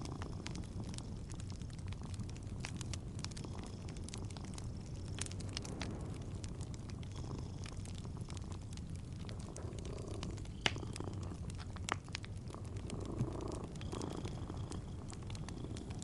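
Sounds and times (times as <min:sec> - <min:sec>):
fireplace crackling and popping: 0:00.0 - 0:16.0
kitten purring: 0:00.0 - 0:16.0.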